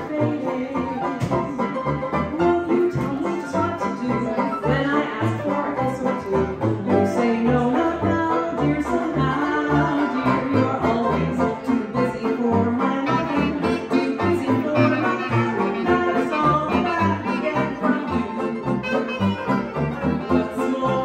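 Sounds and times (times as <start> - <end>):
hot jazz band playing: 0.0 - 21.0
sousaphone bass notes: 0.0 - 21.0.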